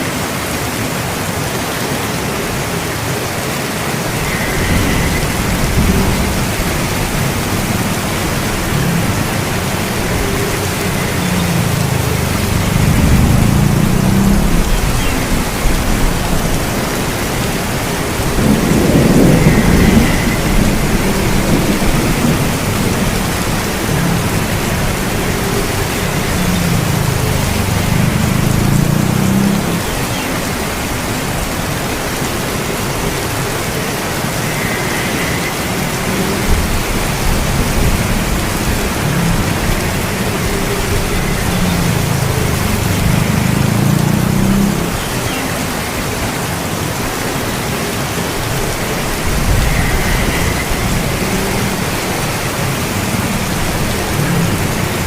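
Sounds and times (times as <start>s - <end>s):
heavy rain: 0.0s - 55.0s
low rolling thunder: 4.0s - 45.0s, 48.4s - 55.0s.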